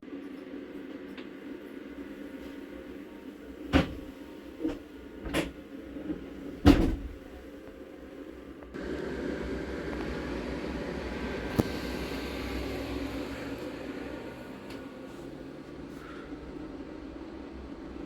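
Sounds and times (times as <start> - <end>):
steady compartment hum: 1.0 - 18.0.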